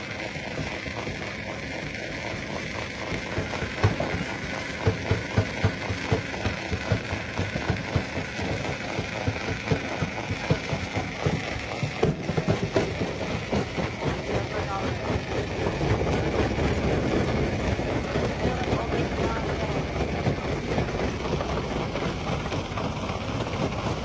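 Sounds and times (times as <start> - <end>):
rock crusher mechanical whine: 0.0 - 24.0.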